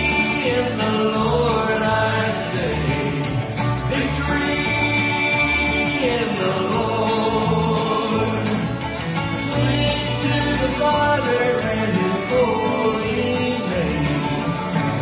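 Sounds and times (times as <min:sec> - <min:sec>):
live country song with singing: 0:00.0 - 0:15.0.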